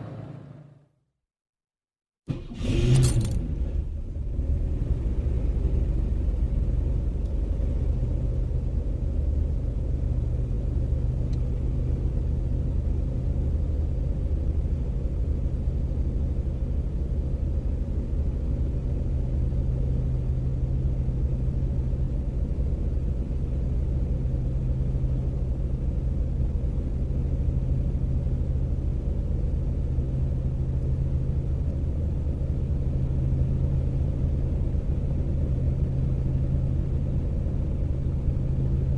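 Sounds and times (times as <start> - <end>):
car engine idling: 3.9 - 38.9.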